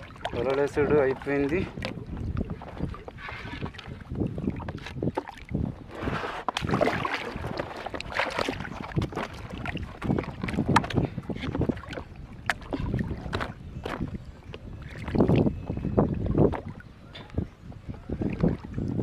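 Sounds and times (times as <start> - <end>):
water splashing and lapping: 0.0 - 19.0.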